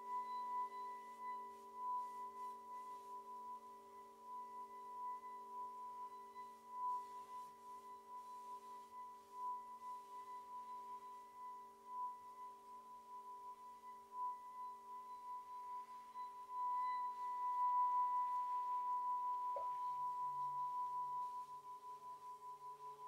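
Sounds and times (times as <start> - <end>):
large bowl deep pulsing tone: 0.0 - 23.0
low hum of ringing bowls: 0.0 - 23.0
singing bowl high tone: 0.0 - 23.0.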